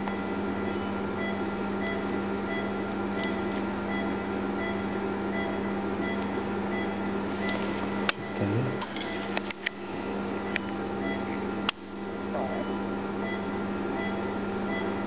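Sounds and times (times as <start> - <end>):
equipment hum: 0.0 - 15.0.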